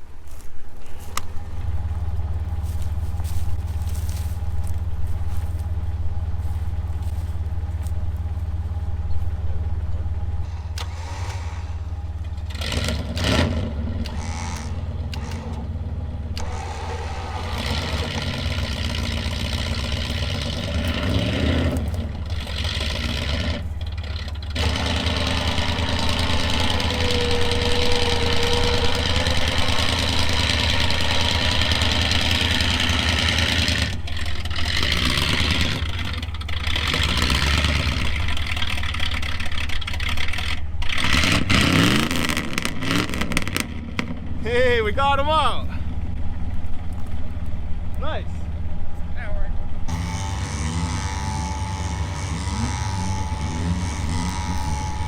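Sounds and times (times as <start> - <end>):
low engine rumble: 0.0 - 55.0
electric winch whining: 0.8 - 44.1, 49.5 - 55.0.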